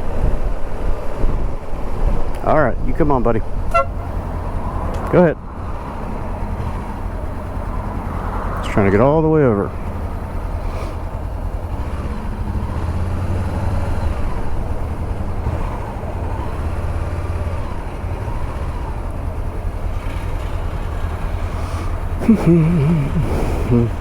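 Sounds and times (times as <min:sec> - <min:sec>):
motorcycle engine rumble: 0:00.0 - 0:24.0
wind and road noise: 0:00.0 - 0:24.0.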